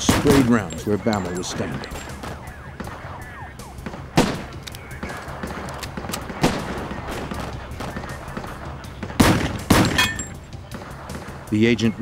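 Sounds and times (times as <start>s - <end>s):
gunshots: 0.0s - 11.5s.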